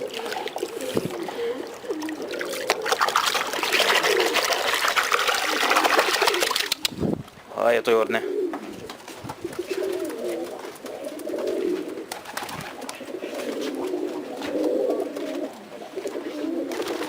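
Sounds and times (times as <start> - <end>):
pigeons cooing: 0.0 - 7.0, 8.1 - 17.0.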